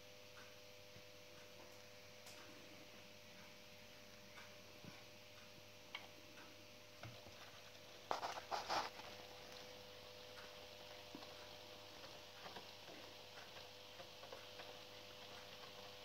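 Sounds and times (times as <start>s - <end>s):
faint electrical hum: 0.0s - 16.0s
soft ticks: 0.4s - 2.5s, 4.3s - 7.8s, 8.4s - 16.0s.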